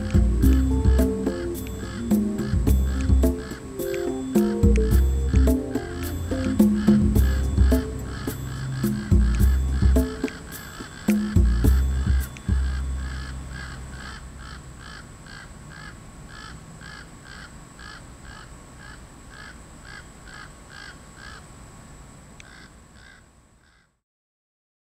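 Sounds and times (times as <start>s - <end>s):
ravens cawing: 0.0s - 21.5s, 22.4s - 23.9s.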